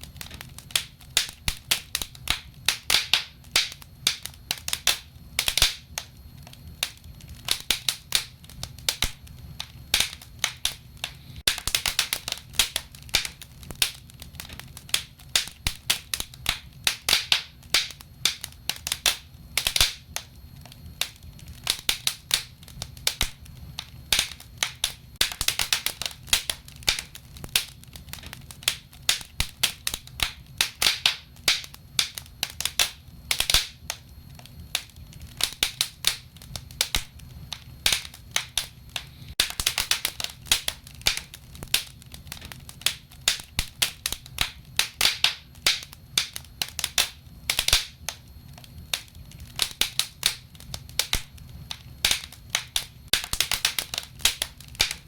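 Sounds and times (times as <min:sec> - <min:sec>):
low rumble of flame: 0:00.0 - 0:55.0
wood fire crackling and popping: 0:00.0 - 0:55.0.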